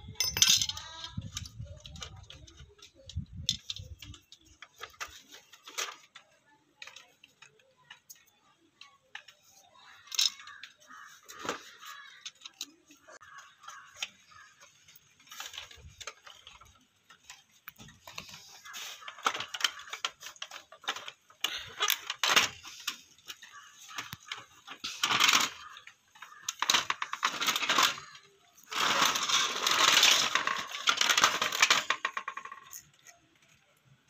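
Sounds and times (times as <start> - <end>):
plastic parts clicking and knocking: 0.0 - 34.0
plastic rattling and scraping: 0.0 - 34.0.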